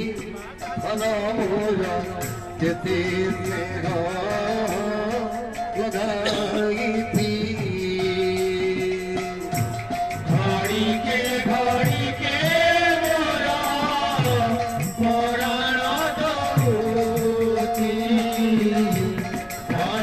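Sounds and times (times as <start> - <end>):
devotional singing: 0.0 - 20.0
hand drums playing: 0.0 - 20.0.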